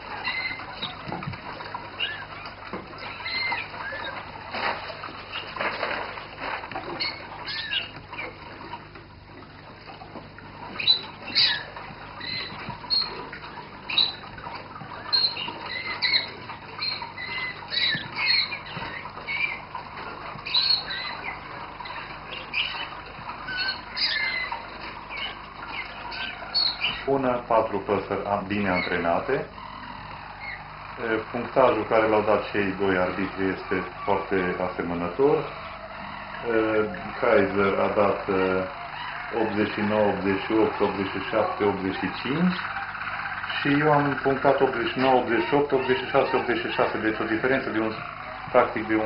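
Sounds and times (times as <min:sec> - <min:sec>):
canaries singing: 0:00.0 - 0:49.0.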